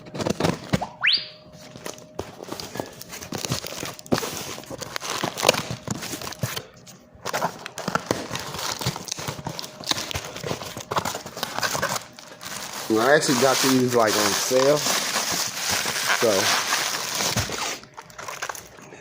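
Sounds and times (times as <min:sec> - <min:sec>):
packaging rustling: 0:00.0 - 0:18.8
packaging ripping: 0:01.7 - 0:06.6, 0:07.2 - 0:18.8.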